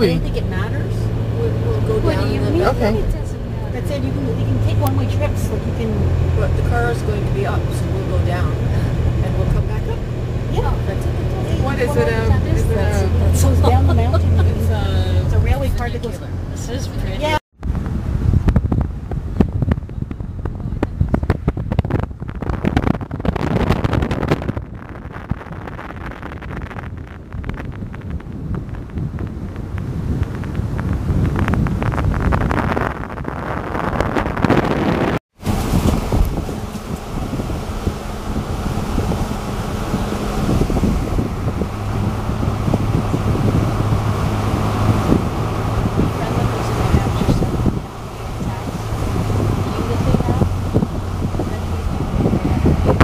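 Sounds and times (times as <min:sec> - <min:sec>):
car road noise: 0:00.0 - 0:53.0
vehicle hum and rumble: 0:00.0 - 0:53.0
wind buffeting microphone: 0:00.0 - 0:53.0.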